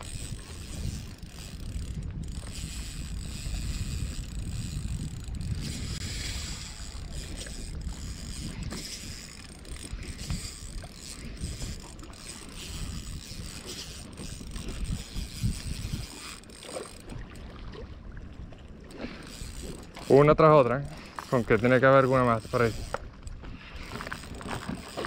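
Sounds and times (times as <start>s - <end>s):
spinning reel cranking: 0.0s - 17.2s, 19.2s - 23.0s, 23.8s - 25.0s
wind rumble on microphone: 0.0s - 25.0s.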